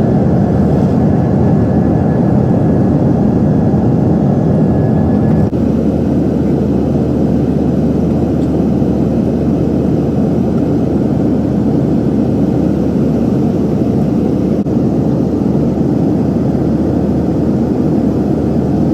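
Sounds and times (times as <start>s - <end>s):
jet engines rumbling: 0.0s - 18.9s.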